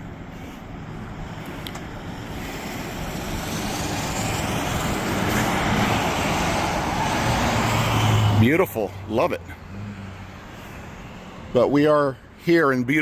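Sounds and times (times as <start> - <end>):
motor vehicle approaching: 0.2 - 12.2.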